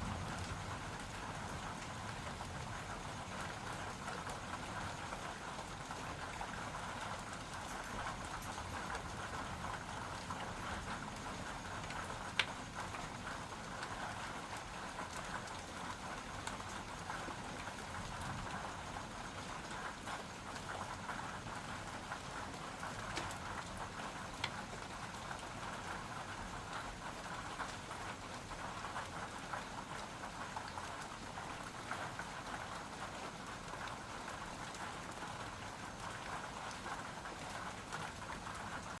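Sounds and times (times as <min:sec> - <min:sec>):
sharp ticks of raindrops: 0:00.0 - 0:39.0
steady rain hiss: 0:00.0 - 0:39.0.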